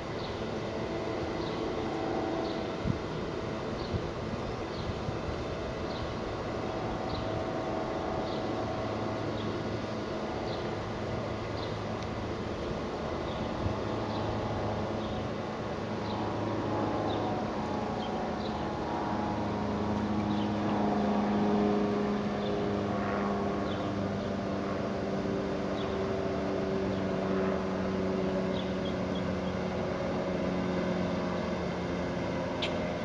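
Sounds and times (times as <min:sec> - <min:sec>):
engine drone: 0:00.0 - 0:33.0.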